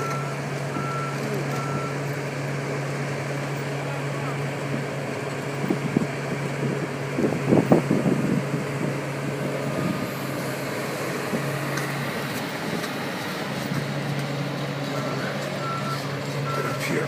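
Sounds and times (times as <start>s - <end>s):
truck engine humming: 0.0s - 17.0s.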